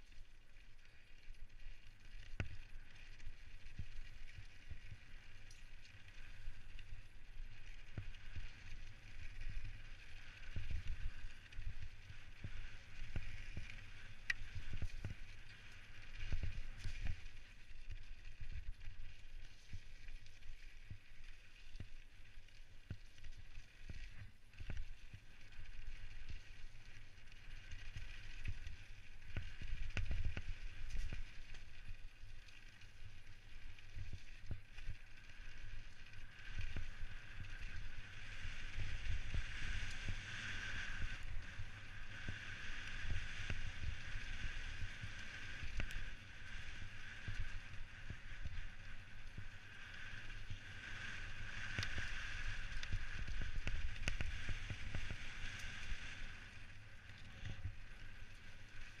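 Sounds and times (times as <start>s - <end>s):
wind and rolling hiss: 0.0s - 59.0s.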